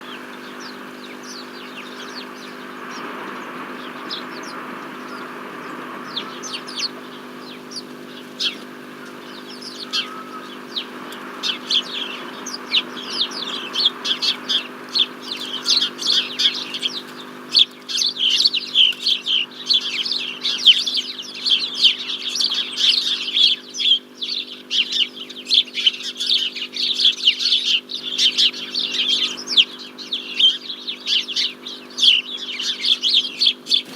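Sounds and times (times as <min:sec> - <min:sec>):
songbirds chirping: 0:00.0 - 0:33.9
steady low hum: 0:00.0 - 0:33.9.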